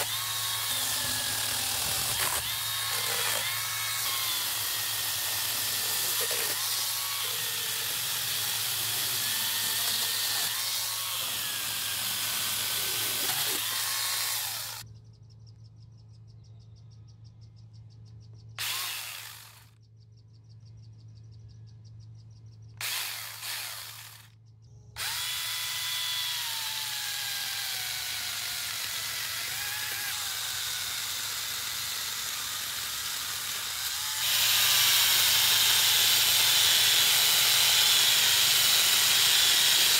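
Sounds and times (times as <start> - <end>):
chainsaw cutting wood: 0.0 - 14.8, 18.6 - 19.6, 22.8 - 24.3, 25.0 - 39.9.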